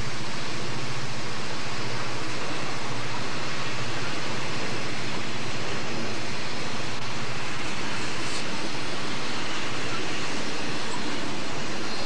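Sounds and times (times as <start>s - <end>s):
freight cars rolling on rails: 0.0s - 12.0s.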